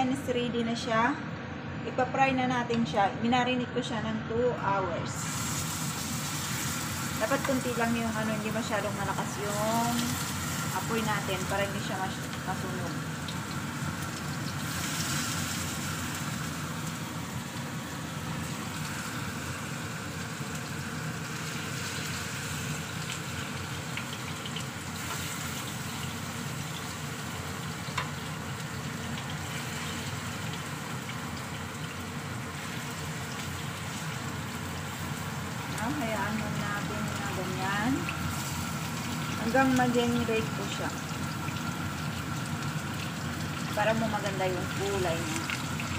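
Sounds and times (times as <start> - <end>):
chicken sizzling in oil: 5.2 - 45.9.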